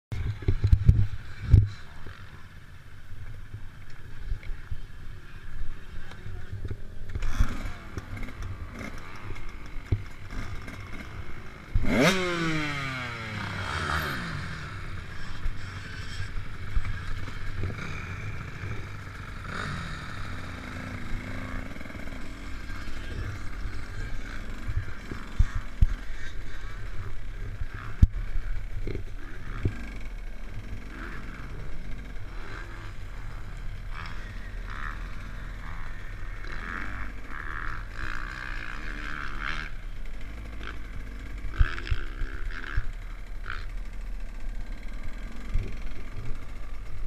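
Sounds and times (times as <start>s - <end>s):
motorbike engine idling and revving: 0.1s - 47.0s.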